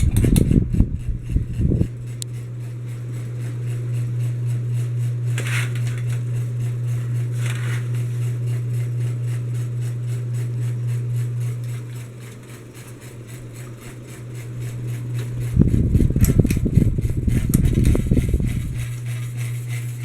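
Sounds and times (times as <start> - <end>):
ceiling fan motor humming: 0.0 - 20.0.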